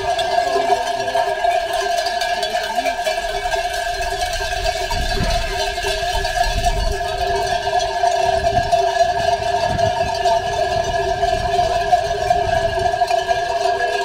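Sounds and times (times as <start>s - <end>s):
sheep bells jangling: 0.0s - 14.0s.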